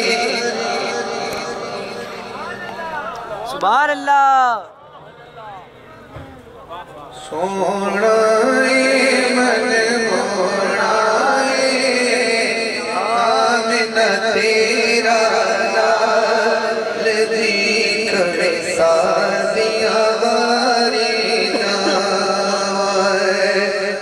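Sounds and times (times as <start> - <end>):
man chanting: 0.0 - 2.9, 7.1 - 24.0.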